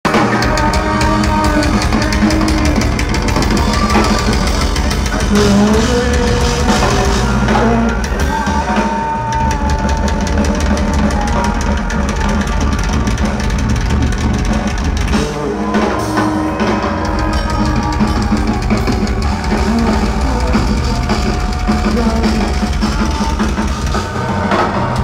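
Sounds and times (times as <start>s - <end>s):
drum kit pounding: 0.0s - 25.0s
metal band playing live: 0.0s - 25.0s.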